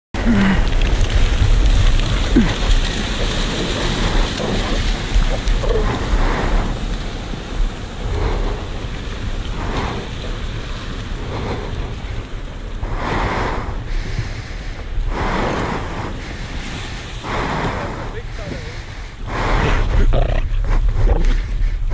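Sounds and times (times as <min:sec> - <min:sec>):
surf washing onto beach: 0:00.2 - 0:21.9
wind buffeting microphone: 0:00.2 - 0:21.9.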